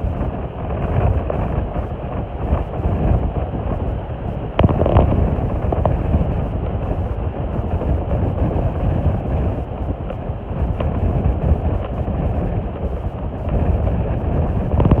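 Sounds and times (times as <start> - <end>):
sea waves washing on shore: 0.0 - 15.0
wind buffeting microphone: 0.0 - 15.0.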